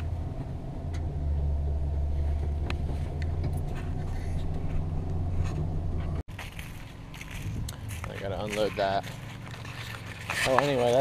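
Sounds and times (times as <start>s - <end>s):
pickup engine rumble from cab: 0.0s - 10.4s.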